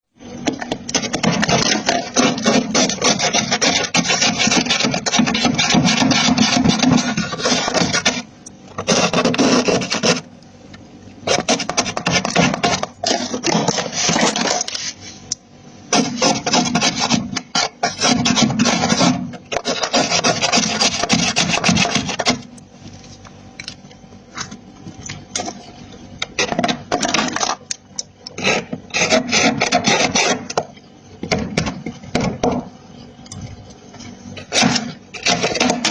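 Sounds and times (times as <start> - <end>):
scraping freezer frost: 0.5 - 10.3, 11.2 - 30.7, 33.8 - 35.9.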